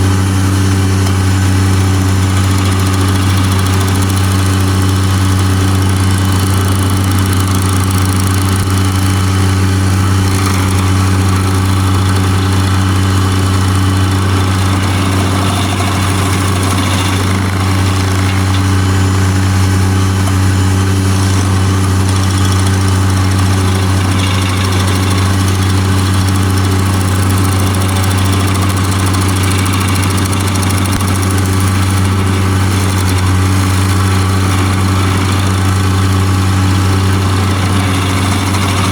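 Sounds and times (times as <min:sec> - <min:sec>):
loader engine running under load: 0:00.0 - 0:38.9.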